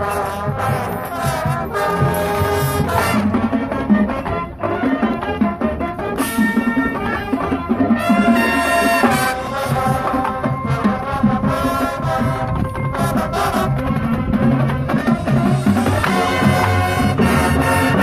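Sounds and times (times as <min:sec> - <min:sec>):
drum line pulsing: 0:00.0 - 0:18.0
marching band brass chords: 0:00.0 - 0:18.0.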